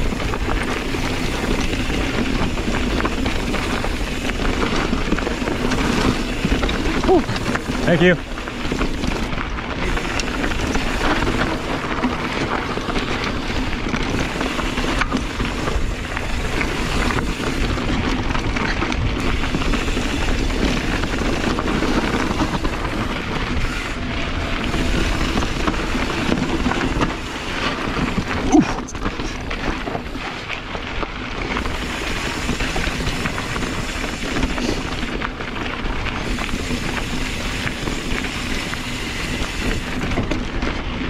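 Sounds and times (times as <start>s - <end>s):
bike rattles and knocks: 0.0s - 41.0s
tyres on rough dirt trail: 0.0s - 41.0s
wind buffeting microphone: 0.0s - 41.0s.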